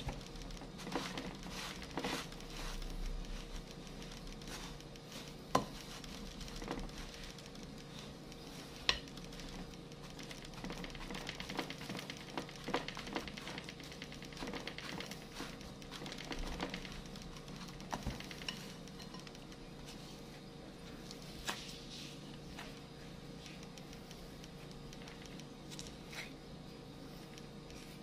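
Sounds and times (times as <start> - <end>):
spoon scraping crumb mixture: 0.1 - 24.0.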